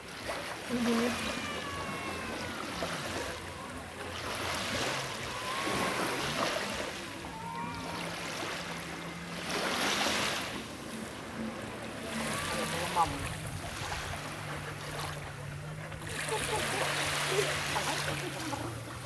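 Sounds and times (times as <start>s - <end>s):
small waves washing in: 0.0s - 19.0s
faint distant voices: 0.3s - 19.0s.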